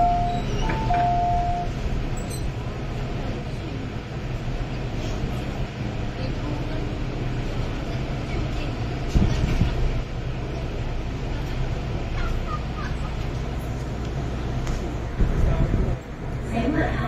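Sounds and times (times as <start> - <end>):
train cabin hum: 0.0 - 17.0.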